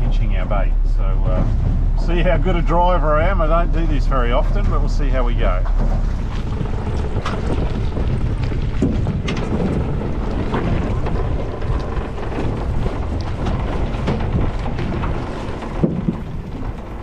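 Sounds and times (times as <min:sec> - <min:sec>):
boat motor running: 0:00.0 - 0:17.0
hull knocks and splashes: 0:00.0 - 0:17.0
wind on microphone: 0:00.0 - 0:17.0.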